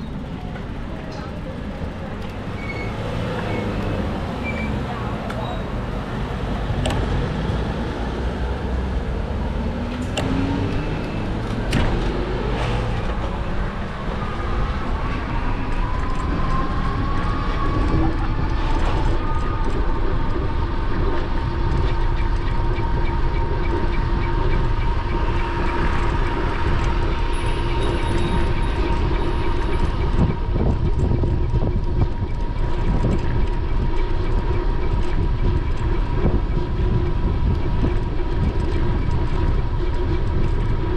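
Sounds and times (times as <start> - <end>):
road rumble: 0.0 - 40.9
wind buffeting microphone: 0.0 - 40.9.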